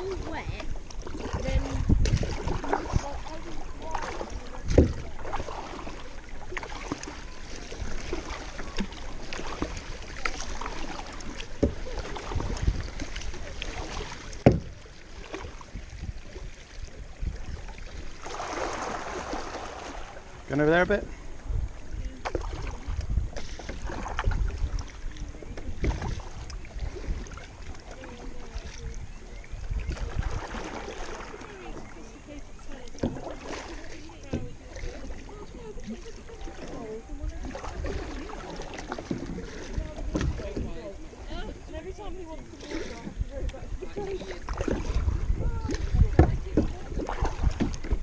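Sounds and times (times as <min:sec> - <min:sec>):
wind rumble on microphone: 0:00.0 - 0:05.8, 0:07.2 - 0:20.5, 0:21.1 - 0:31.1, 0:33.0 - 0:48.0
paddle splashes and drips: 0:00.0 - 0:48.0.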